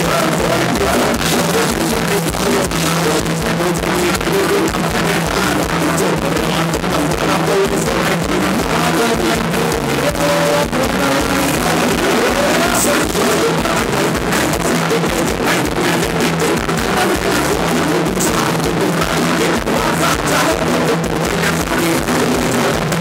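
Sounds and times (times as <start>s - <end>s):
drum kit beat: 0.0s - 23.0s
live band playing dance music: 0.0s - 23.0s.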